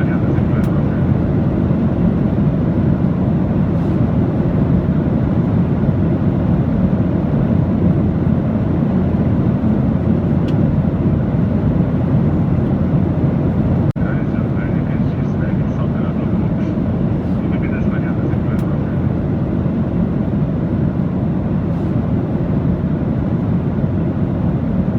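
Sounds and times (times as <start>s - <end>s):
aircraft low rumble: 0.0s - 24.9s.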